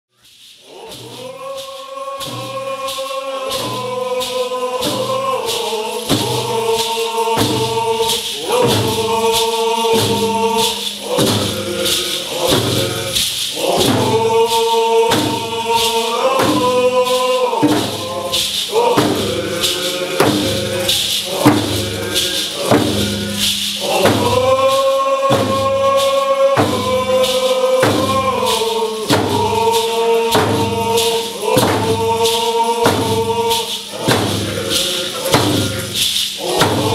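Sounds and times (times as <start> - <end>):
steady drumbeat: 0.3 - 36.9
group chanting in unison: 0.5 - 36.9.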